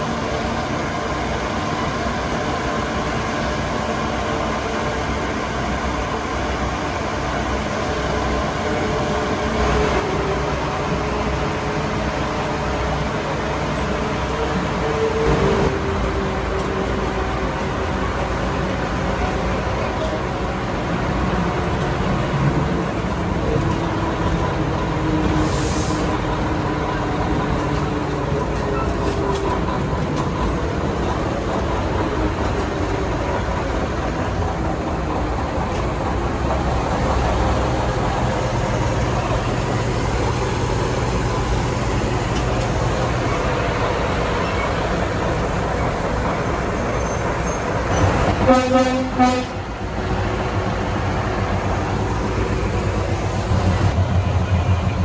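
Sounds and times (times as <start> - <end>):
locomotive diesel engine running: 0.0 - 55.0
train rumbling along track: 0.0 - 55.0.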